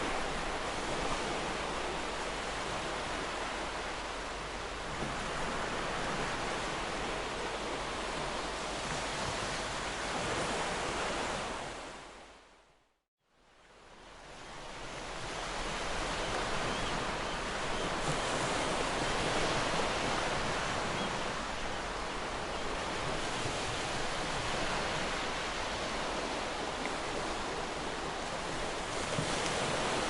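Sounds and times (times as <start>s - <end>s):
ocean surf washing onto beach: 0.0s - 12.1s, 13.7s - 30.0s.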